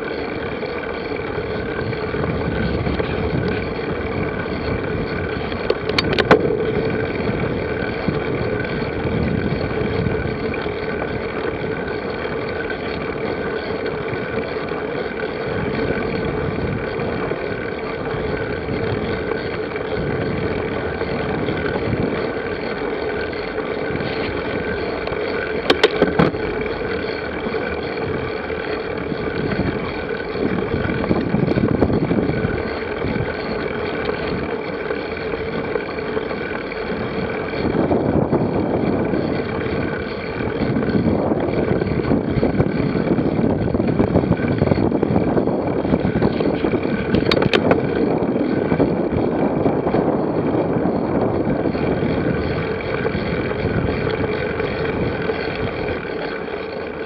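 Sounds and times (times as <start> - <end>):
steady rumbling hum: 0.0 - 57.0.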